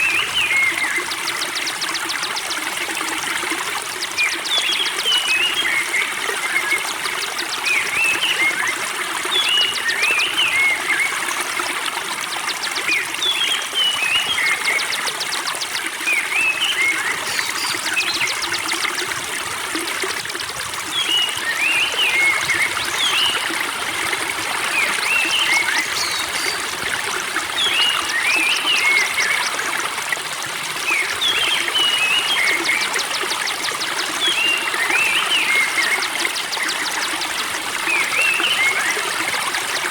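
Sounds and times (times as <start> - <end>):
spring water trickling: 0.0 - 39.9.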